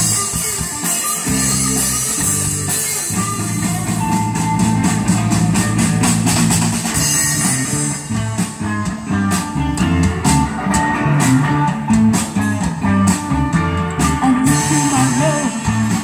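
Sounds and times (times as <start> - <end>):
drum kit: 0.0 - 16.0
electric bass: 0.0 - 16.0
electric guitars: 0.0 - 16.0.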